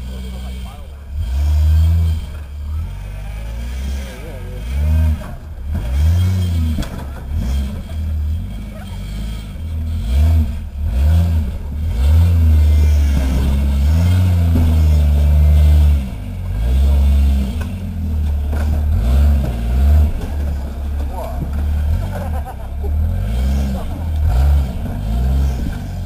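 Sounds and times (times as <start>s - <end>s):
buggy engine revving: 0.0s - 26.0s.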